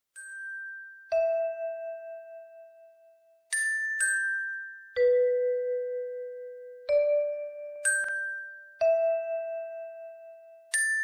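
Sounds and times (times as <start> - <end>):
bell-like notes ringing: 0.2 - 11.0.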